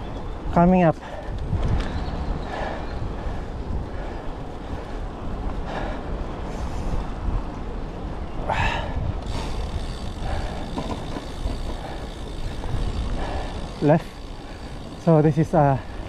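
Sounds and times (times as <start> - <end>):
bike tyres on tarmac: 0.0 - 16.0
wind on microphone: 0.0 - 16.0.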